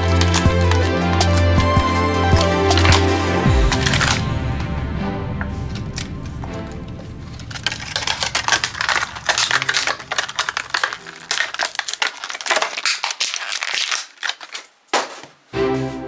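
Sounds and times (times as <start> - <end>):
plastic wrapper crinkling: 0.0 - 4.3, 5.4 - 15.3.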